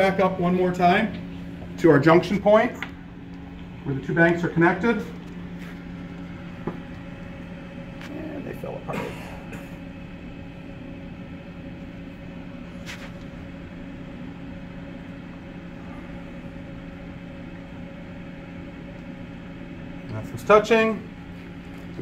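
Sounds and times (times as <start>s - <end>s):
steady tonal hum: 0.0s - 22.0s.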